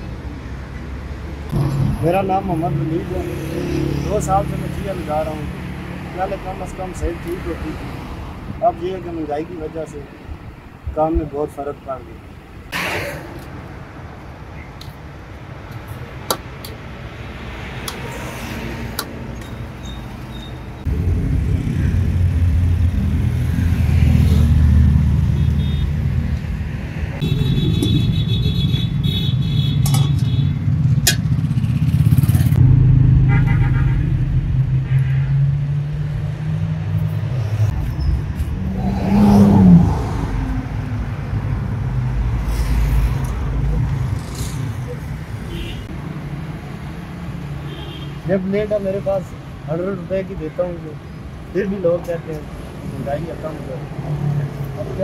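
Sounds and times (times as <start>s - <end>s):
car engines passing: 0.0s - 55.0s.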